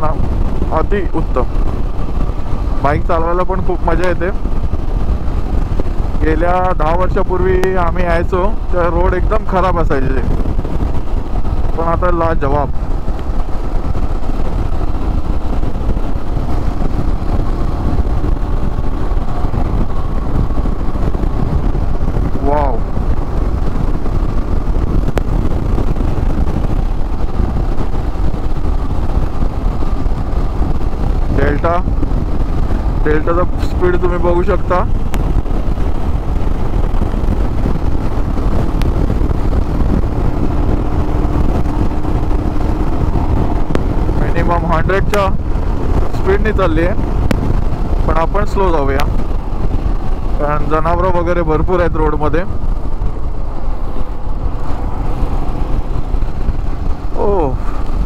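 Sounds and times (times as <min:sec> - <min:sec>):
motorcycle engine droning: 0:00.0 - 0:58.0
wind rushing over microphone: 0:00.0 - 0:58.0.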